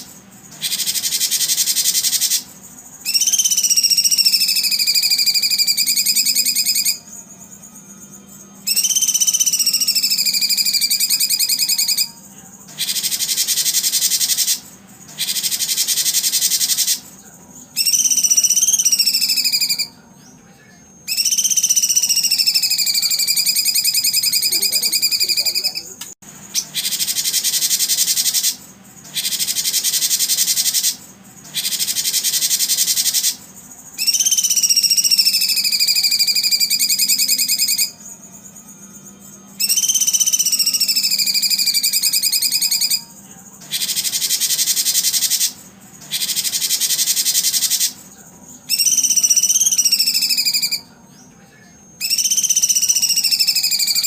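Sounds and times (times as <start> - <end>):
songbird whistled notes: 0.0 - 20.4, 21.0 - 54.0
songbird buzzy trill: 0.0 - 54.0.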